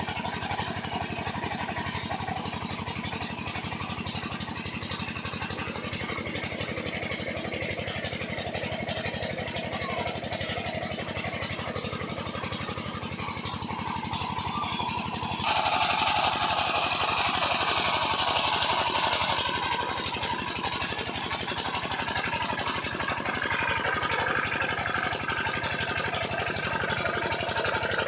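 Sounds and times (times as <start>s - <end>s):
diesel water pump engine running: 0.0s - 28.0s.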